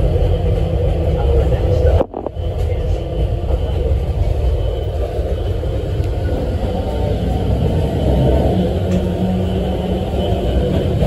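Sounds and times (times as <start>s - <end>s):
train rumbling from inside car: 0.0s - 11.0s.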